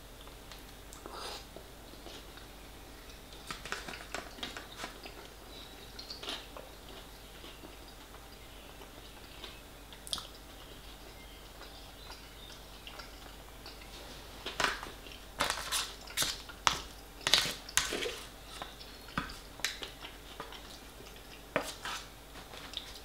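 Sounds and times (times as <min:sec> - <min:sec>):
man chewing food: 0:00.2 - 0:23.0.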